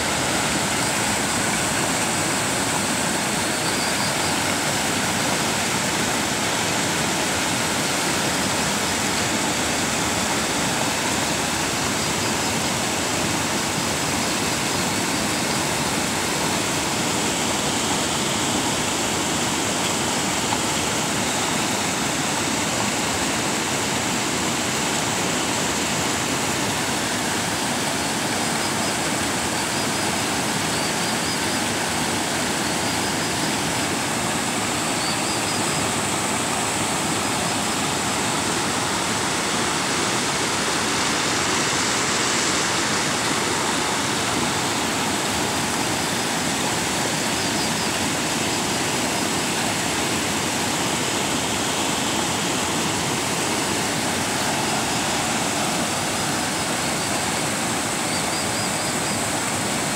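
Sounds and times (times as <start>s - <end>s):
river water rushing over weir: 0.0s - 59.9s.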